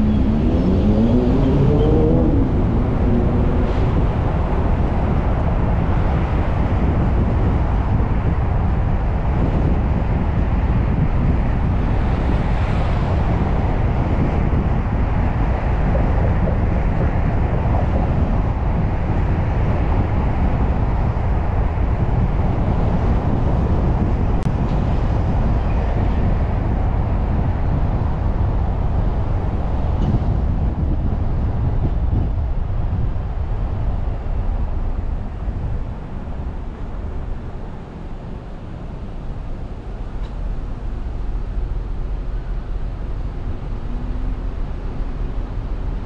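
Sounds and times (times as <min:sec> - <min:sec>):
car road and wind noise: 0:00.0 - 0:46.0.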